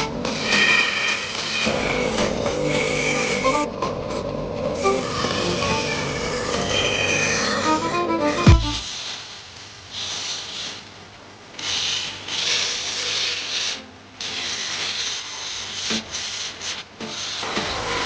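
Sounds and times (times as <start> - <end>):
steel blade scraping abrasive: 0.0 - 3.7, 4.8 - 9.2, 11.6 - 18.0.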